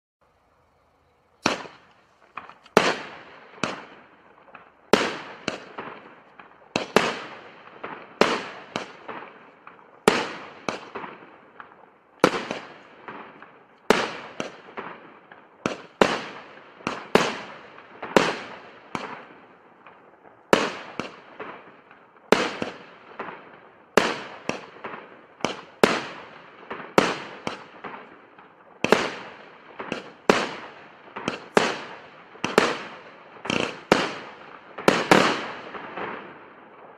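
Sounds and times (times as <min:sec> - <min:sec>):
firework bangs: 0:01.3 - 0:36.9.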